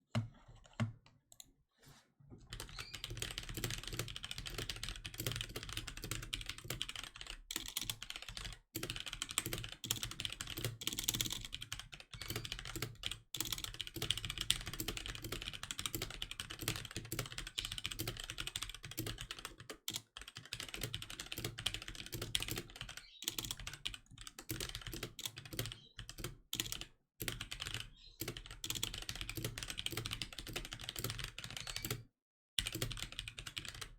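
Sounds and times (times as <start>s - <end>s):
fast typing on mechanical keyboard: 2.5s - 32.0s, 32.6s - 33.9s.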